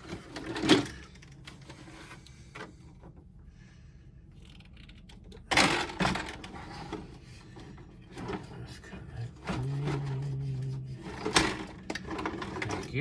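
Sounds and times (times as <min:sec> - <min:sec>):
plastic parts clattering: 0:00.0 - 0:03.2, 0:04.4 - 0:08.6, 0:09.2 - 0:13.0.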